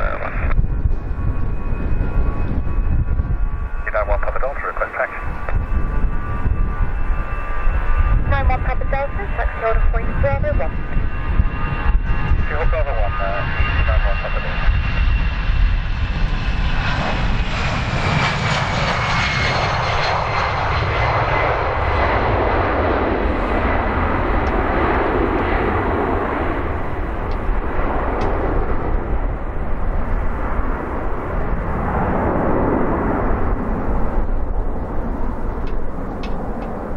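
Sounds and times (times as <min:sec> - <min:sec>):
high engine whine: 0:00.0 - 0:36.9
jet engine roar: 0:00.0 - 0:36.9.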